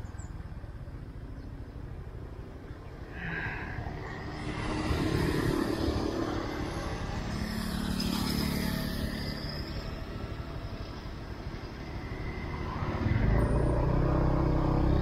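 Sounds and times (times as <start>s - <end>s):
scooters passing by: 2.4s - 15.0s.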